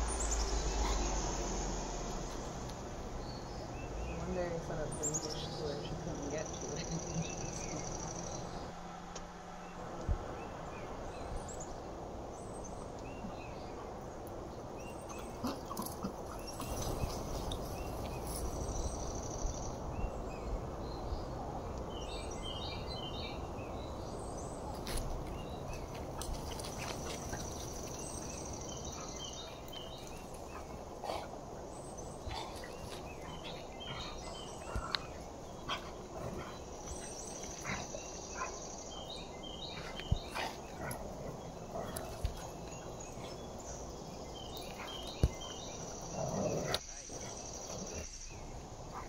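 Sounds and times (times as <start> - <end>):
outdoor background noise: 0.0 - 49.0.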